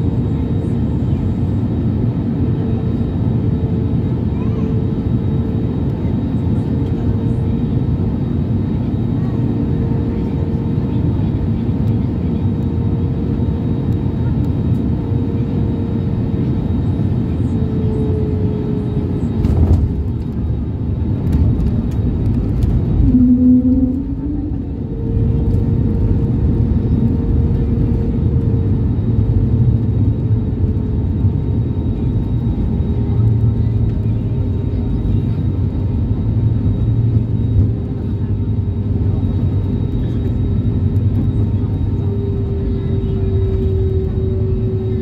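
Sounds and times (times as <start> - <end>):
faint engine whine: 0.0 - 45.0
jet engines rumbling: 0.0 - 45.0.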